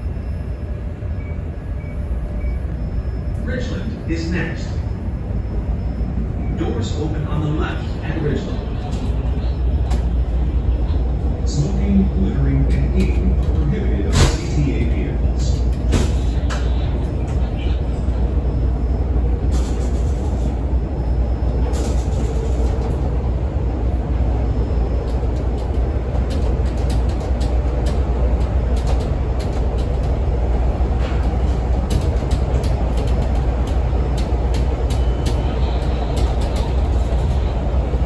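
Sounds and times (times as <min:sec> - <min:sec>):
train rumbling on tracks: 0:00.0 - 0:38.0.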